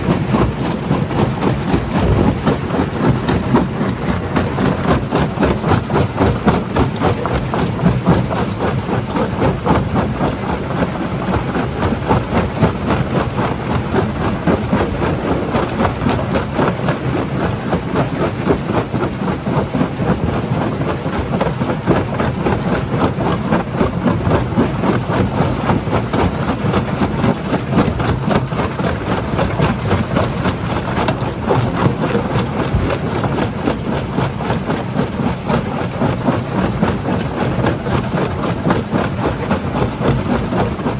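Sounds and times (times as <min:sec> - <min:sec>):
jaw crusher running: 0:00.0 - 0:40.9.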